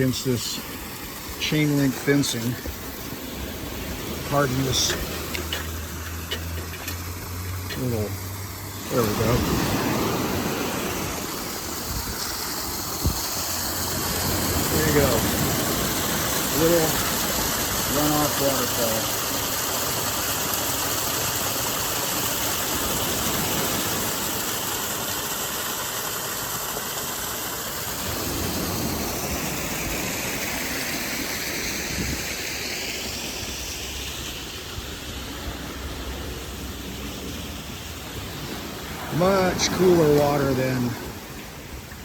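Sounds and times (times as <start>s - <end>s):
waterfall splashing into sea: 0.0s - 42.0s.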